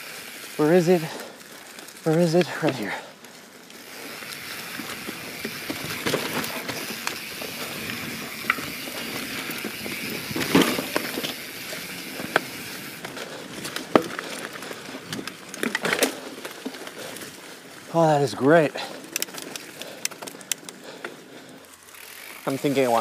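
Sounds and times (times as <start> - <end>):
bike clicks and rattles: 0.0 - 23.0
bike tyres rolling on dirt: 0.0 - 23.0.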